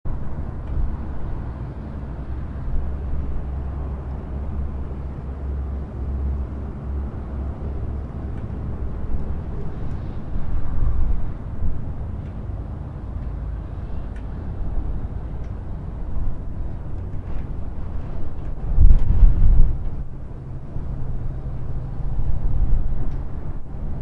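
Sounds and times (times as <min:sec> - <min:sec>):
breeze rushing with deep rumble: 0:00.0 - 0:24.0.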